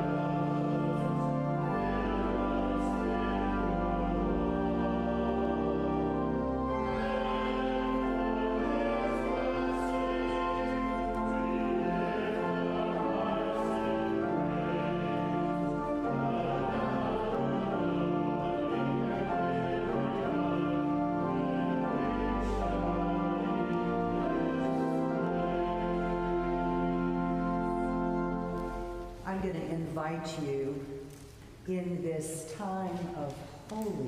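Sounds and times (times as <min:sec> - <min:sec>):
slow church hymn music: 0:00.0 - 0:34.0.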